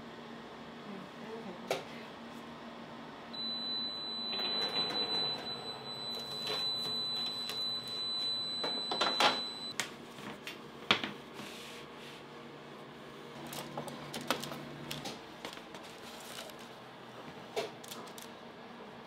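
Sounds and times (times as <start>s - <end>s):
oven high whine: 0.0s - 19.0s.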